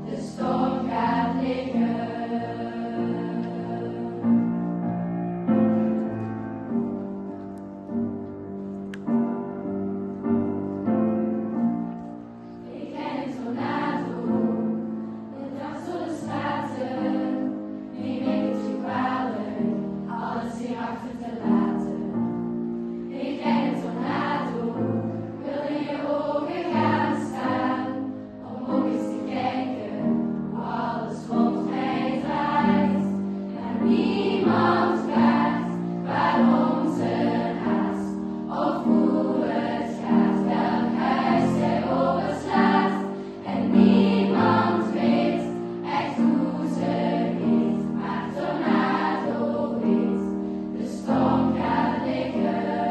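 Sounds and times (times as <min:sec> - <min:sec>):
choir singing slowly: 0:00.0 - 0:08.4, 0:11.5 - 0:52.9
keyboard accompaniment: 0:00.0 - 0:52.9.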